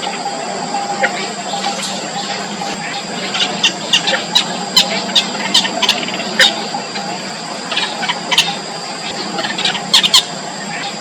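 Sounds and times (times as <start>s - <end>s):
chicks squeaking: 0.0s - 11.0s.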